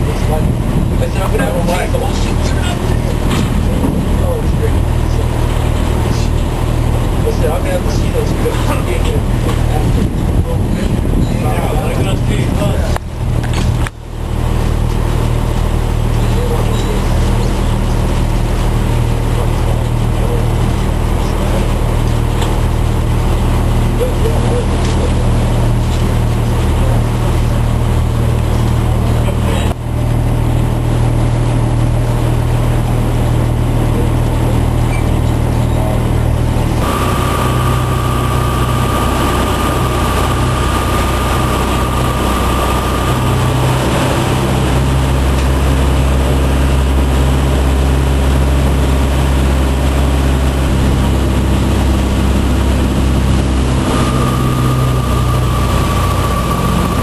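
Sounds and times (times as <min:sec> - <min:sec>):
boat engine running: 0:00.0 - 0:57.0
thin steady whine: 0:00.0 - 0:57.0.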